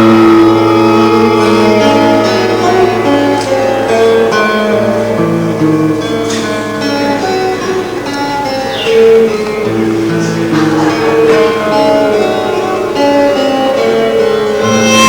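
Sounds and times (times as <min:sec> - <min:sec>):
guitar: 0:00.0 - 0:15.0
violin melody: 0:00.0 - 0:15.0.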